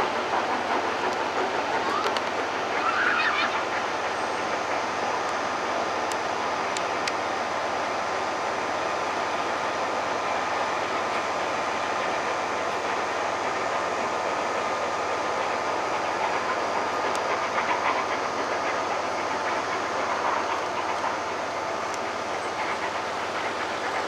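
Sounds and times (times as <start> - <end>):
train wheels running on rails: 0.0 - 24.0.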